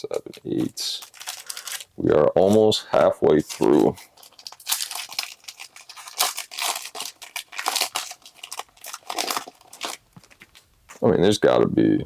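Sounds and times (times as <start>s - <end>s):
foil wrapper tearing and crinkling: 0.4s - 2.6s, 3.4s - 11.0s.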